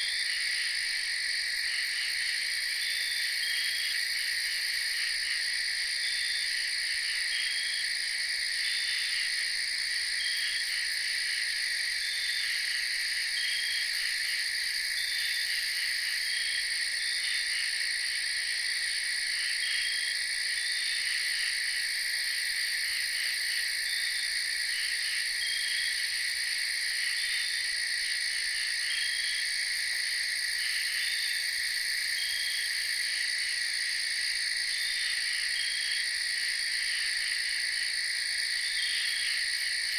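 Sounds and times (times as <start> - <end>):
high trilling of frogs and insects: 0.0 - 39.9.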